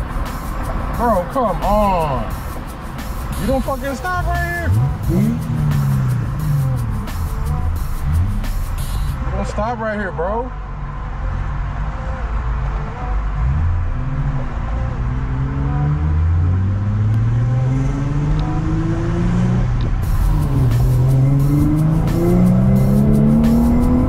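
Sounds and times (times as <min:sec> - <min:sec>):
car engine accelerating: 0:00.0 - 0:09.7, 0:10.4 - 0:24.0.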